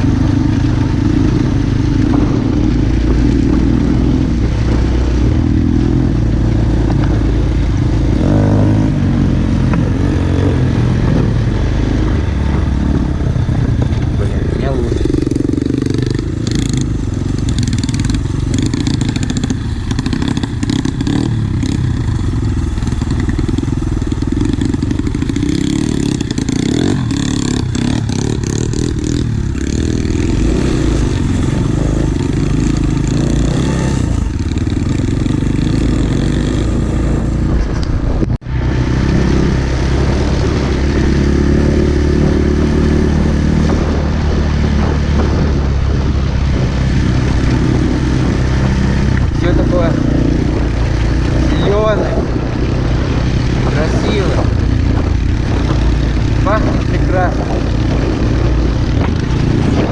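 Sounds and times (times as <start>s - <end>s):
pit bike engine running: 0.0s - 59.9s.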